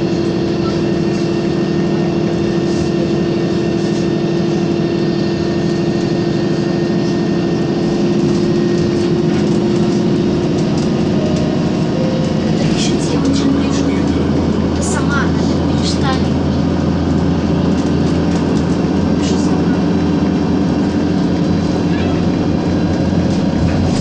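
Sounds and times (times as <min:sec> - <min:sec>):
bus engine drone: 0:00.0 - 0:24.0
road rumble: 0:00.0 - 0:24.0.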